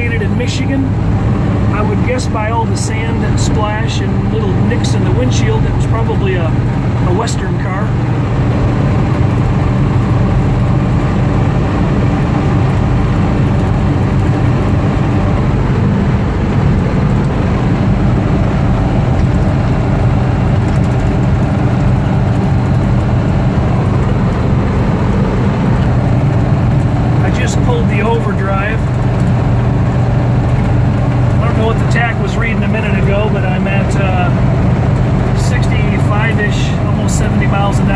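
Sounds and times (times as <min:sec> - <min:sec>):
car engine hum: 0:00.0 - 0:37.9
road noise: 0:00.0 - 0:37.9.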